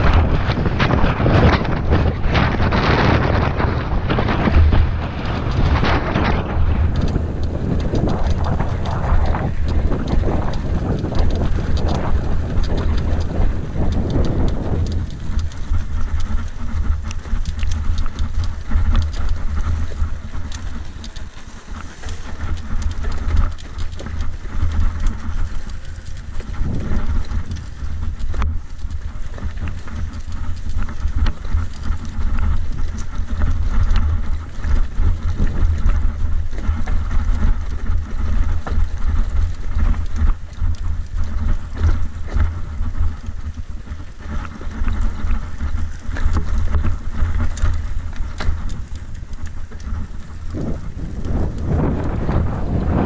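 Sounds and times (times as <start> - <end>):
bike tyres rattling and knocking: 0.0 - 53.0
low rumble: 0.0 - 53.0
wind buffeting microphone: 0.0 - 53.0.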